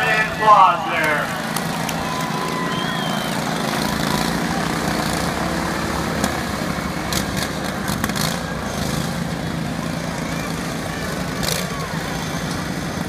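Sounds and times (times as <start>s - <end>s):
lawnmower engines idling: 0.0s - 13.0s.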